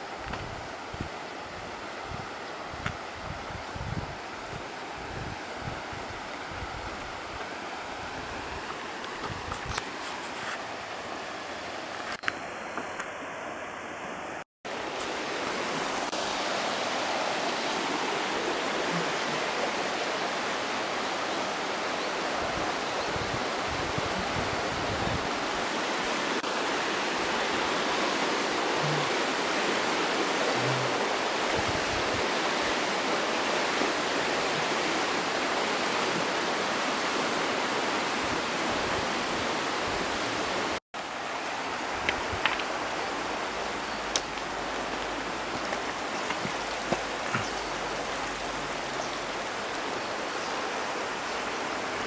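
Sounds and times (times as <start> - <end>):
river water flowing over rocks: 0.0 - 52.0.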